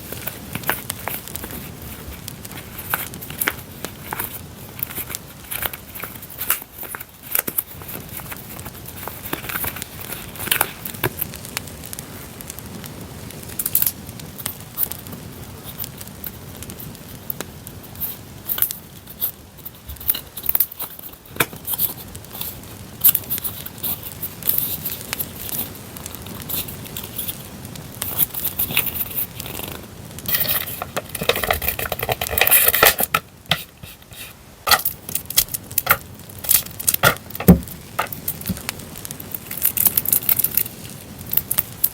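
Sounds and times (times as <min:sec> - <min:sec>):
packaging crinkling and rustling: 0:00.0 - 0:12.3, 0:13.6 - 0:41.9
campfire crackling: 0:00.0 - 0:41.9.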